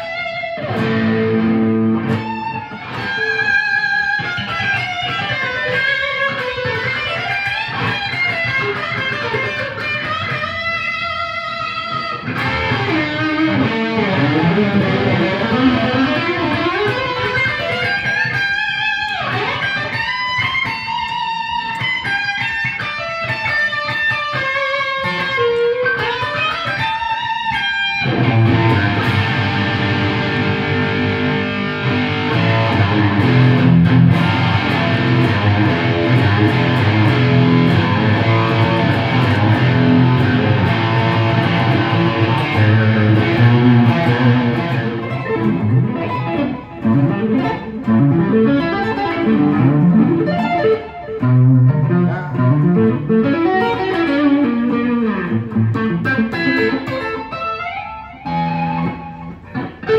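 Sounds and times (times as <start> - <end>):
electric guitar with delay: 0.0 - 59.9.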